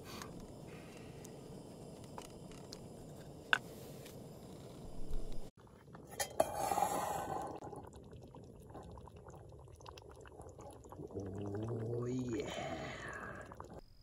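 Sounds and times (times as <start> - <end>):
stew simmering and bubbling: 0.0 - 13.9.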